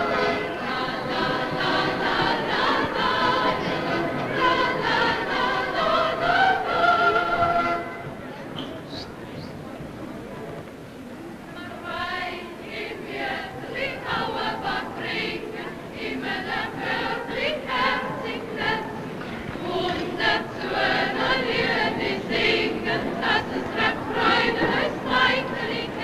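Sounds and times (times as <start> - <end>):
choir singing: 0.0 - 8.2, 11.5 - 26.0.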